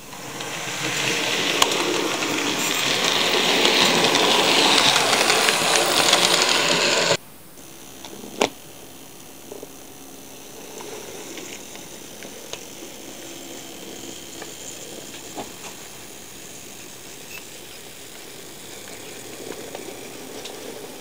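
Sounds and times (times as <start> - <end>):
model train whirring rattle: 0.0 - 21.0.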